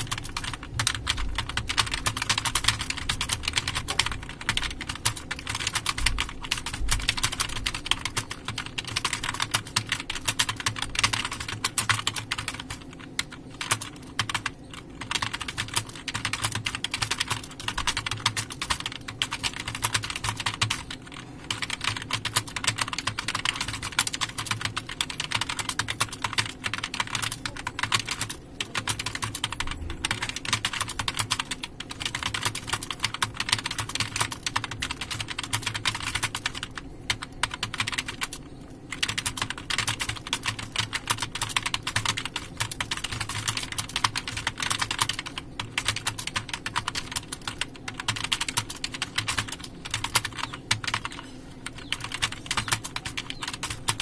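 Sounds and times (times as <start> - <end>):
fast typing on keyboard: 0.0 - 54.0.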